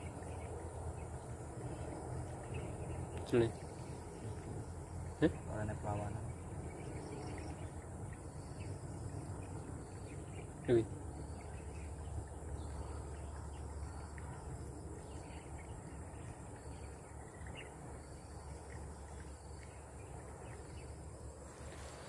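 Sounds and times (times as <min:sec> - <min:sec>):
faint low rumble: 0:00.0 - 0:22.0
insects droning: 0:00.0 - 0:22.0.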